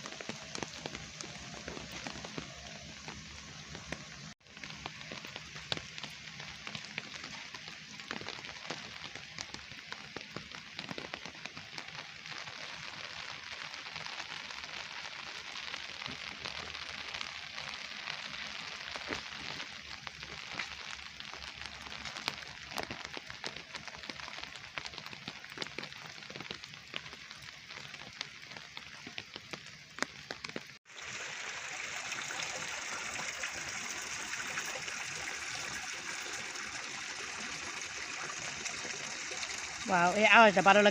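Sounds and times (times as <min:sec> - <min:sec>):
rain drops ticking: 0:00.0 - 0:40.9
running water: 0:00.0 - 0:40.9.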